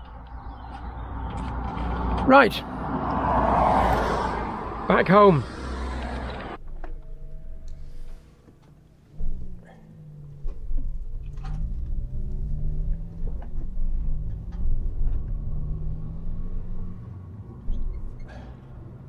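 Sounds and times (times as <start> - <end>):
car engine rumble from inside: 0.0 - 8.2, 8.9 - 19.0.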